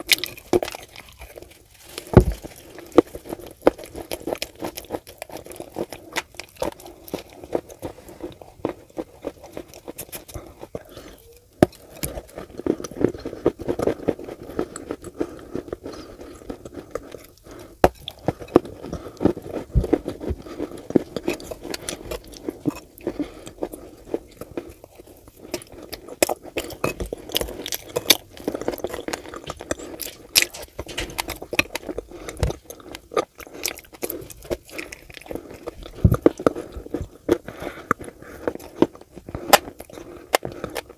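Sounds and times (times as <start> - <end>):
chewing wet clay: 0.0 - 40.9.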